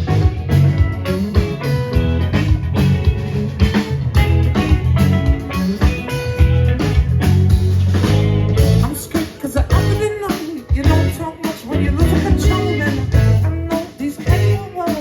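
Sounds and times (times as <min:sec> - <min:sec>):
electric guitar: 0:00.0 - 0:15.0
live rock band playing: 0:00.0 - 0:15.0.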